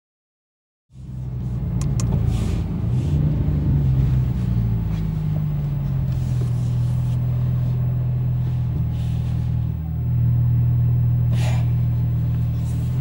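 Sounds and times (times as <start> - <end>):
car engine idling: 0.9 - 13.0.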